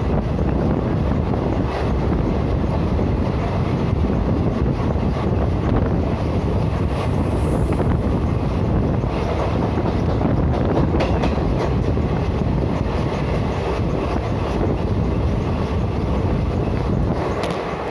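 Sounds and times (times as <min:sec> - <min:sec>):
train wheels rumbling on rail: 0:00.0 - 0:17.9.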